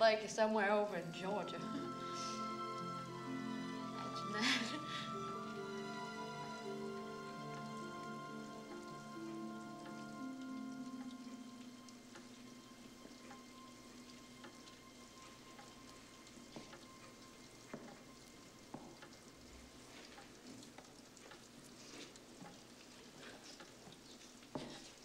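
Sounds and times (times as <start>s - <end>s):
faint crackling hiss: 0.0s - 25.0s.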